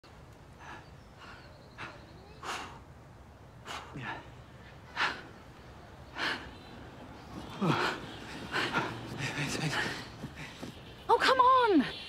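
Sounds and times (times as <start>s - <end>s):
joggers breathing hard: 0.5s - 2.8s, 3.6s - 11.0s.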